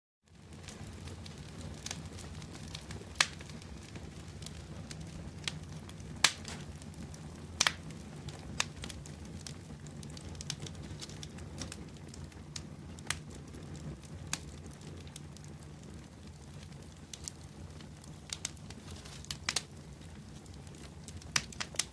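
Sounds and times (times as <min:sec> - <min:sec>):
wood bonfire crackling: 0:00.3 - 0:21.9.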